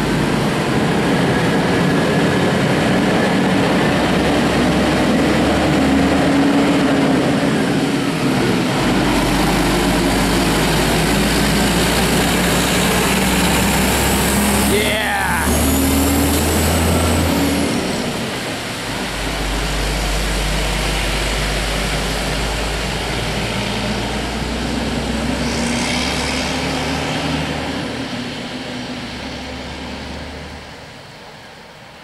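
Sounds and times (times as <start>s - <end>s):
truck diesel engine pulling away: 0.0s - 31.1s.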